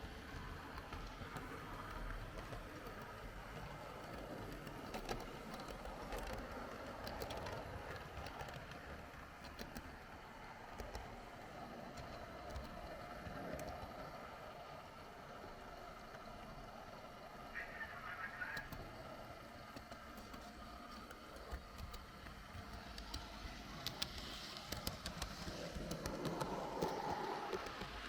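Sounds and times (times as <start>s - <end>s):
clicks over rail joints: 0.0s - 28.0s
faint motor hum: 0.0s - 28.0s
model train wheels rattling: 0.0s - 28.0s.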